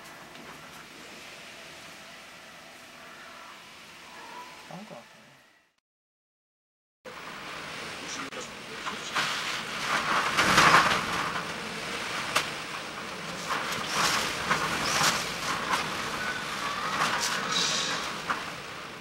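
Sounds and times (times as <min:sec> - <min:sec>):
wind and rain rushing in gusts: 0:00.0 - 0:04.8, 0:07.1 - 0:19.0.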